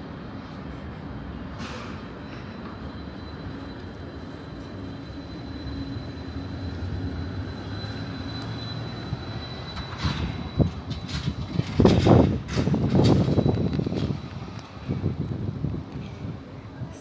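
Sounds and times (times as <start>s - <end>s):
high whine: 0.0s - 16.4s.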